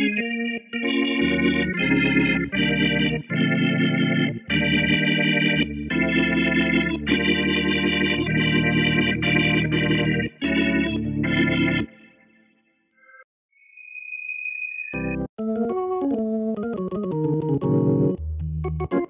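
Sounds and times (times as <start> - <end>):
organ playing held chords: 0.0 - 12.0, 15.0 - 19.0.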